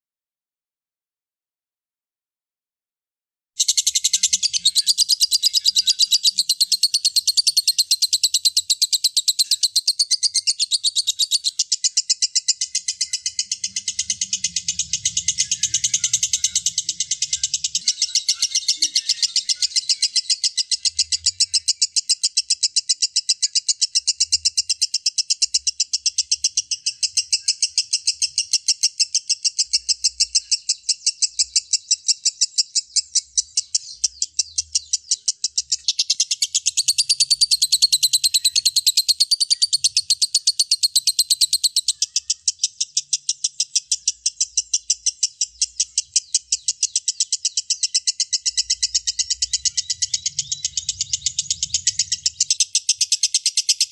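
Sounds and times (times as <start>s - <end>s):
lovebird rapid chatter: 3.6s - 53.9s.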